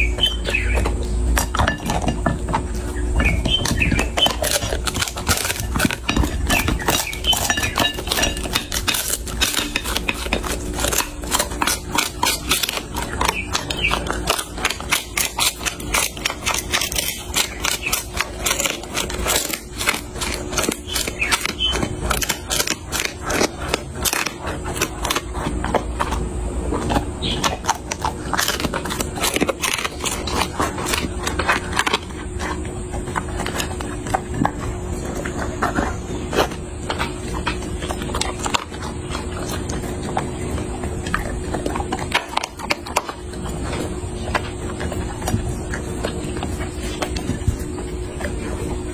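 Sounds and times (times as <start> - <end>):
dog chewing a bone: 0.0 - 48.9.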